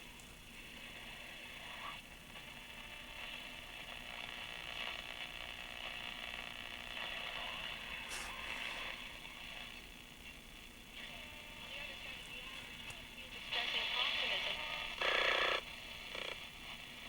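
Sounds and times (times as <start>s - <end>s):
radio crackle: 0.0s - 17.0s
radio static hiss: 0.0s - 17.0s.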